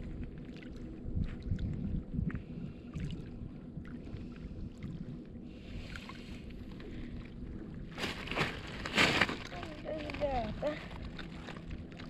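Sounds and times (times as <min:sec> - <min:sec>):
wind noise: 0:00.0 - 0:11.9
motorboat engine running: 0:00.0 - 0:12.0.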